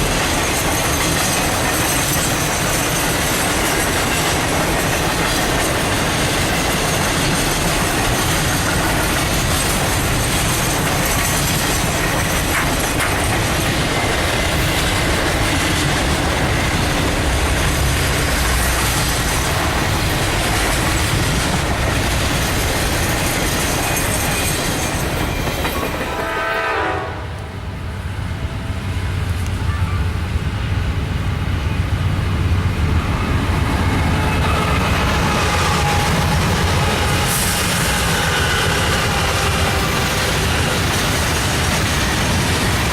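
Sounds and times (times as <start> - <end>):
train wheels clickety-clack: 0.0 - 27.1, 32.8 - 42.9.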